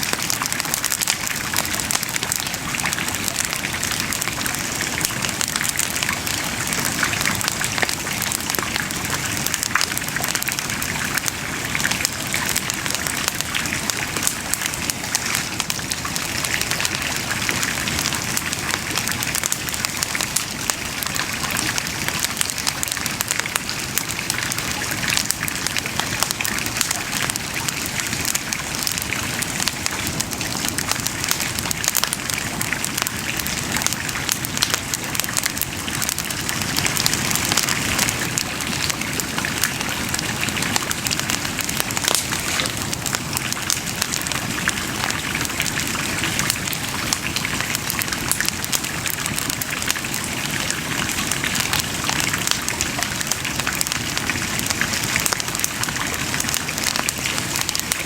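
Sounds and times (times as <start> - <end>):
bonfire crackling: 0.0 - 58.0.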